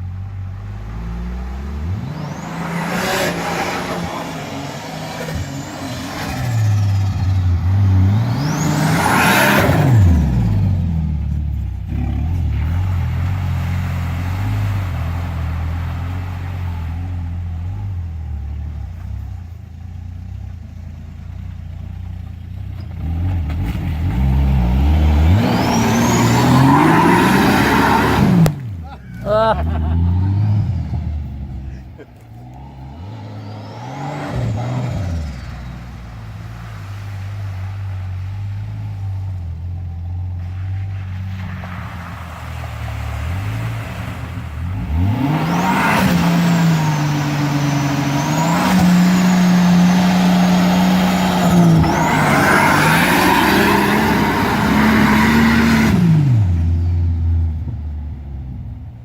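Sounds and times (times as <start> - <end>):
engine revving: 0.0 - 19.2, 22.7 - 37.8, 40.4 - 57.7.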